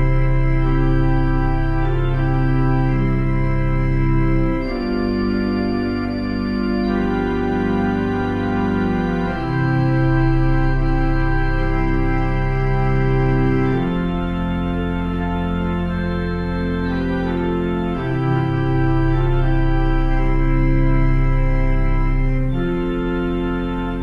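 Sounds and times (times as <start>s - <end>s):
low organ bass note: 0.0s - 24.0s
pipe organ held chords: 0.0s - 24.0s.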